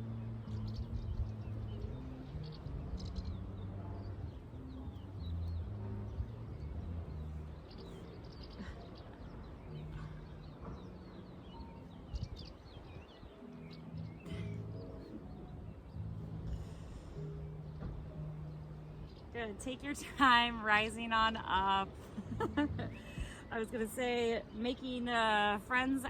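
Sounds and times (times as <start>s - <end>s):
small birds chirping: 0.0s - 26.0s
soft background music: 0.0s - 26.0s.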